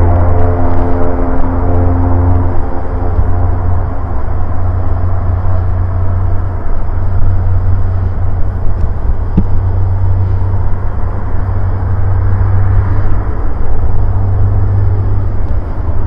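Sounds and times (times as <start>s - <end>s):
turboprop engines droning: 0.0s - 16.0s.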